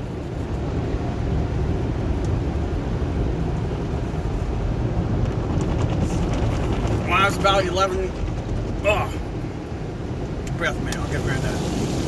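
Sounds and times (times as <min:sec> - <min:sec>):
car wash rumble and hiss: 0:00.0 - 0:12.0.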